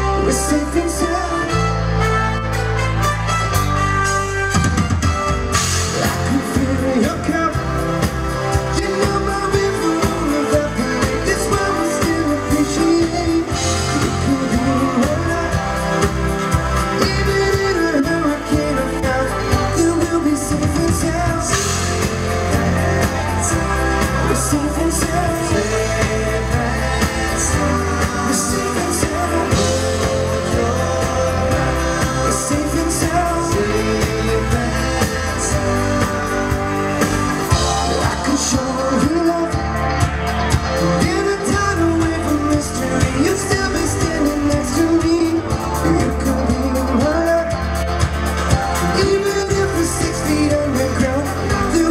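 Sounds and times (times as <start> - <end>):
man singing: 0.0 - 2.7, 5.5 - 51.9
bass: 0.0 - 51.9
drums: 0.0 - 51.9
electric guitars: 0.0 - 51.9.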